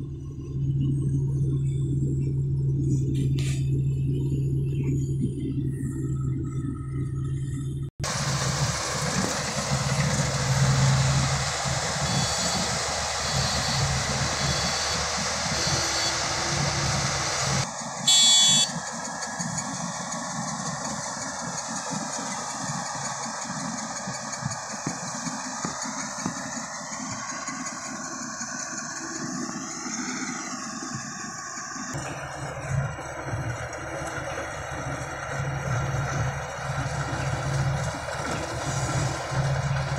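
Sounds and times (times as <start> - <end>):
combine harvester engine: 0.0 - 39.9.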